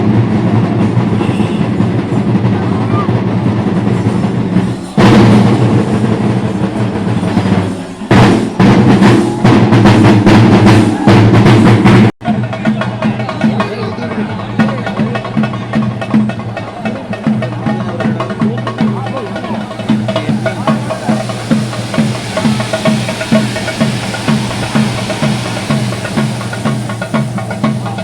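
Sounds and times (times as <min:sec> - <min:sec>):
drums beaten fast and loud: 0:00.0 - 0:28.0.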